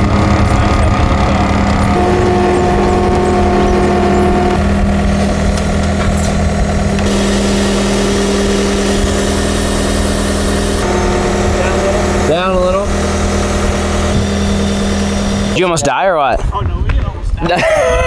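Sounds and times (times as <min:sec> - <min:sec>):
diesel engine running: 0:00.0 - 0:16.5.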